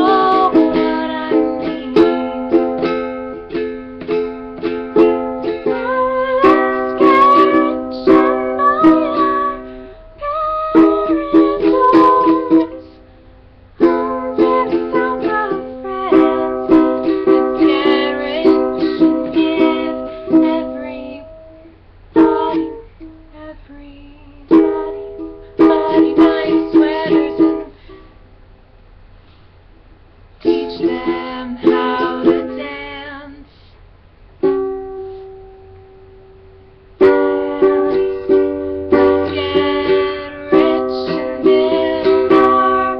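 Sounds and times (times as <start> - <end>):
ukulele strumming chords: 0.0 - 28.1, 30.4 - 33.4, 34.3 - 42.9.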